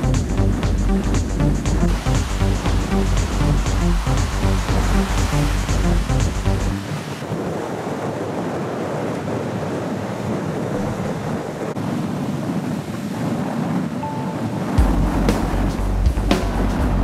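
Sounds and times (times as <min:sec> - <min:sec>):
wind on microphone: 0:00.0 - 0:17.0
surf washing onto beach: 0:01.8 - 0:16.9.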